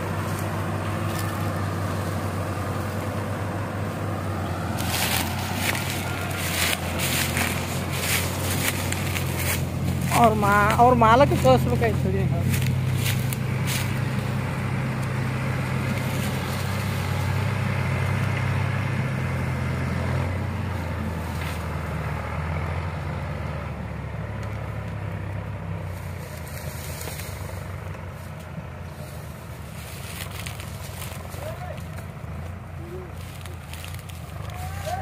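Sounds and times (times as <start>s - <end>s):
diesel engines under heavy load: 0.0s - 35.0s.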